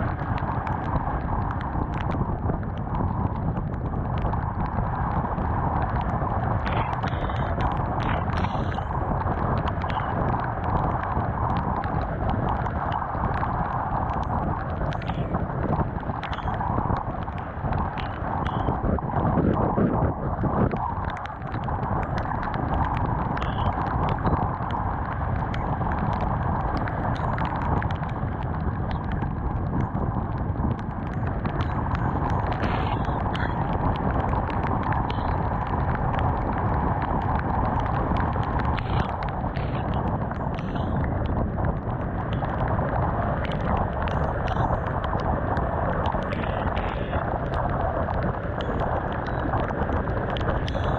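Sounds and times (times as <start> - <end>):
rain noise: 0.0 - 50.9
wind noise: 0.0 - 50.9.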